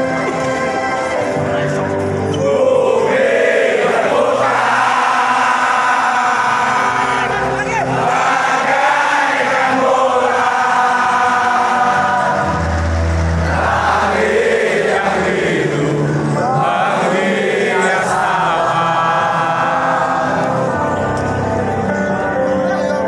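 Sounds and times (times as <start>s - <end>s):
stadium crowd singing in unison: 2.1s - 22.5s.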